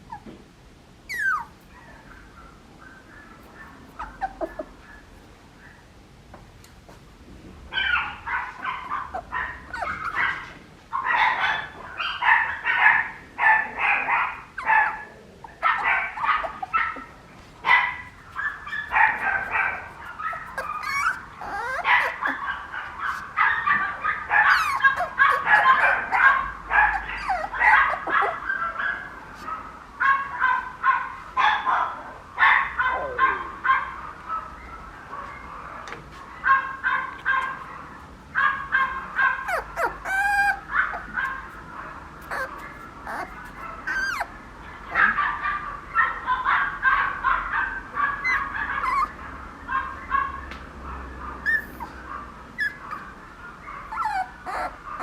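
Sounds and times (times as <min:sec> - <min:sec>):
puppy yipping: 0:01.1 - 0:05.8, 0:07.8 - 0:31.7, 0:36.4 - 0:50.5, 0:51.4 - 0:55.0.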